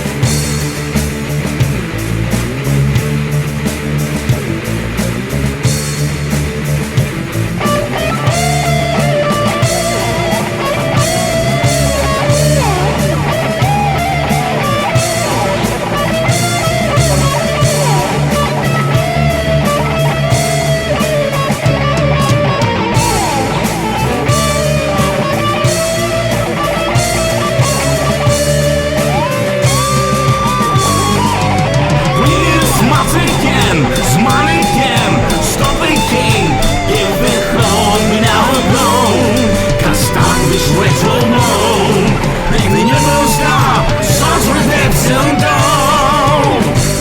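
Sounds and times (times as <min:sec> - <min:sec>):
electric guitar solo: 0:00.0 - 0:47.0
heavy metal band playing: 0:00.0 - 0:47.0.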